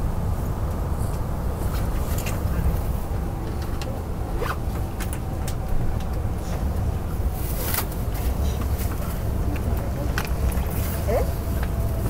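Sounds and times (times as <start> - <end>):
train cabin rumble: 0.0 - 12.0.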